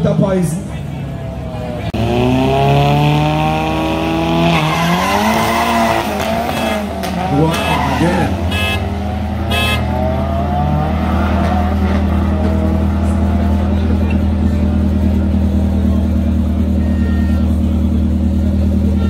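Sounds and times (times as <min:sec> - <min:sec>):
drag cars accelerating: 0:00.5 - 0:19.0.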